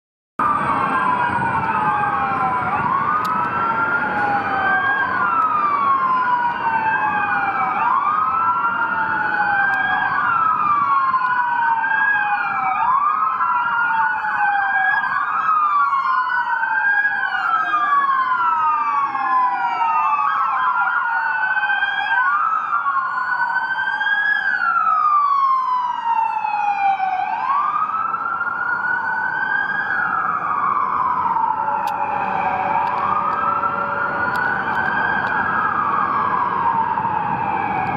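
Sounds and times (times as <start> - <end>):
police sirens wailing: 0.4 - 37.9.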